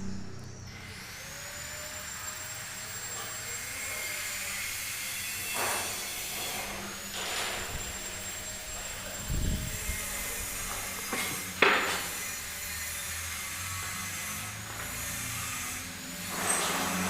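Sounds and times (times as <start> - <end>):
power tool motor whining: 0.0 - 17.0.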